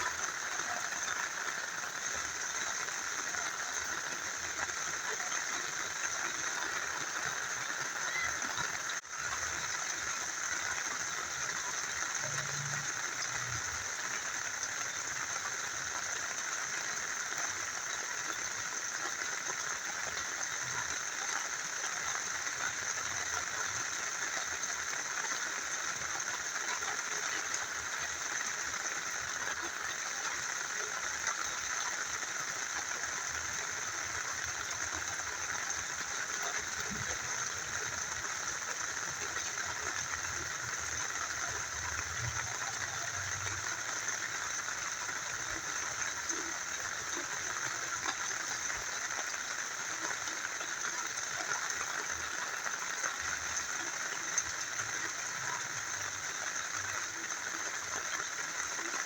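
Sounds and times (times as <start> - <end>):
rain falling: 0.0 - 59.0
small river flowing: 0.0 - 59.0.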